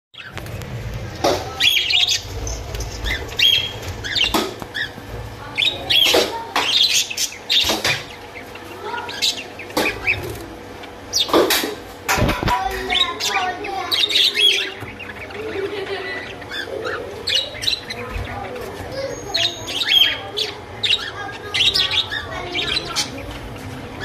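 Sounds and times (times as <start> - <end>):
birds chattering: 0.1 - 24.0
sharp bird calls: 1.5 - 24.0.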